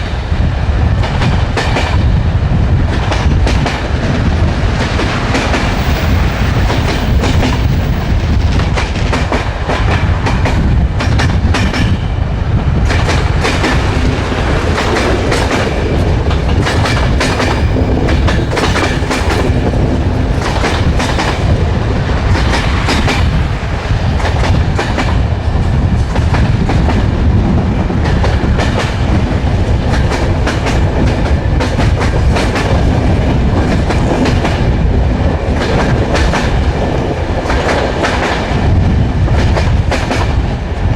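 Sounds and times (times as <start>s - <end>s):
train wheels rumbling on track: 0.0s - 40.9s
wheels clickety-clack on rail joints: 0.0s - 40.9s.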